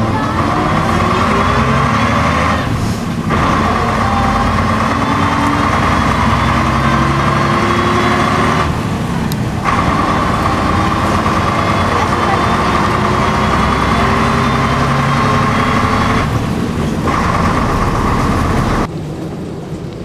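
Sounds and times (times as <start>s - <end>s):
steady drivetrain whine: 0.0s - 18.9s
diesel bus engine running: 0.0s - 19.8s.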